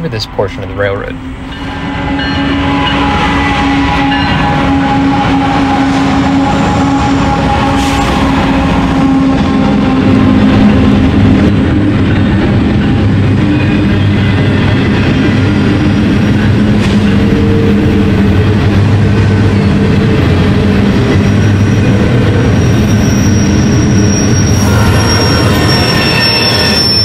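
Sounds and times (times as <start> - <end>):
engine whine: 0.4 - 27.0
model locomotive engine drone: 0.6 - 27.0.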